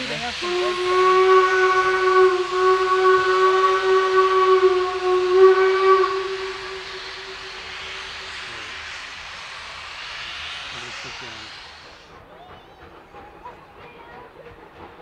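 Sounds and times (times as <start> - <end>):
steady hiss: 0.0 - 12.2
steam locomotive whistle: 0.0 - 13.1.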